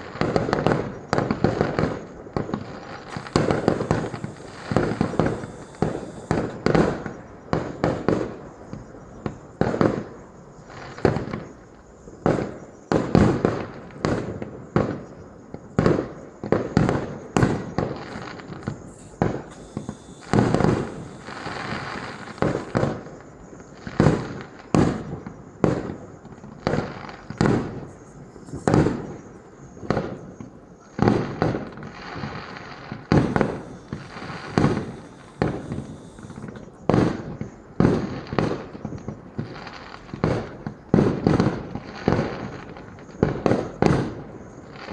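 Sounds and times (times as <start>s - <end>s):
fireworks crackle: 0.0s - 15.0s, 15.6s - 44.9s
fireworks booming bursts: 0.0s - 44.9s.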